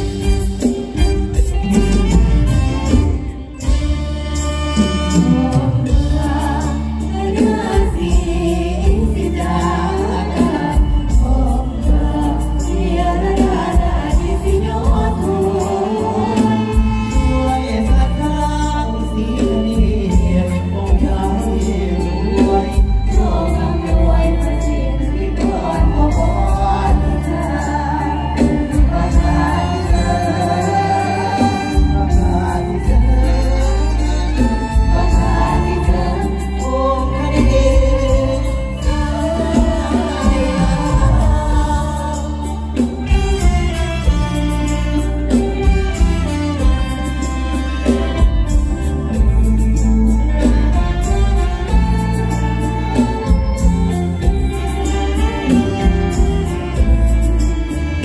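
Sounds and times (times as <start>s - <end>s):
stage show singing with chorus: 0.0s - 58.0s.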